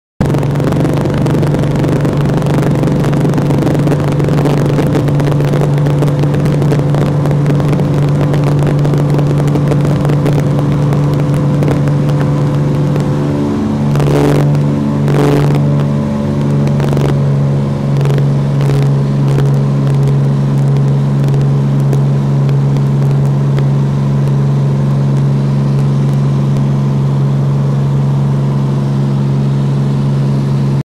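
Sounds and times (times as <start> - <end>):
propeller plane engine droning: 0.2 - 30.8.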